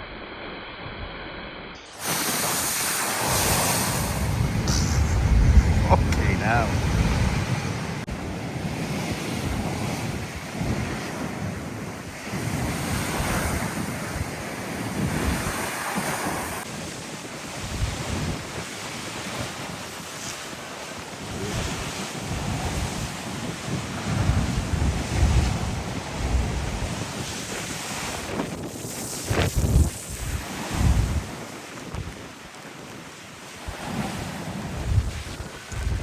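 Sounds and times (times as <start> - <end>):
sea surf breaking: 1.9 - 36.0
wind buffeting microphone: 2.0 - 36.0.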